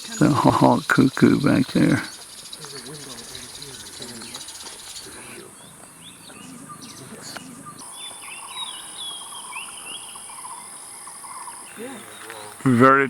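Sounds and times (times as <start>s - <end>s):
high-pitched insect drone: 0.0s - 5.6s, 6.2s - 13.0s
birds whistling calls: 0.0s - 13.0s.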